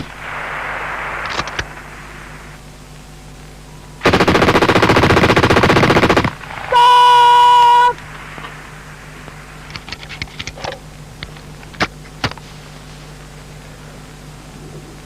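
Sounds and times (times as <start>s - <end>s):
film soundtrack hum and hiss: 0.0s - 15.0s.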